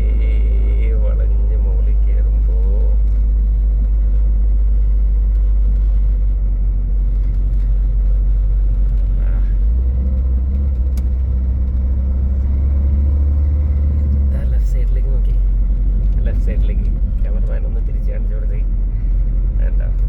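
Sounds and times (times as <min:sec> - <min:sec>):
car engine: 0:00.0 - 0:20.0
road rumble: 0:00.0 - 0:20.0.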